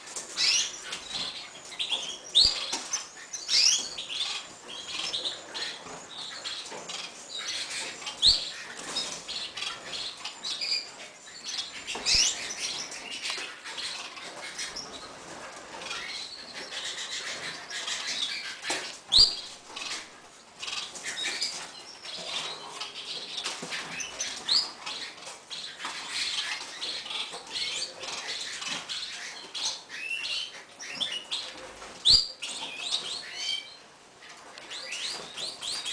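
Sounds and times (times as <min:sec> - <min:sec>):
birds chirping and cheeping: 0:00.0 - 0:35.9.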